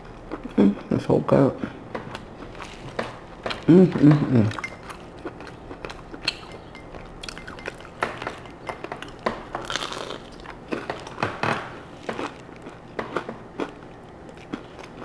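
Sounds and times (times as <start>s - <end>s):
wet chewing: 1.9s - 15.0s.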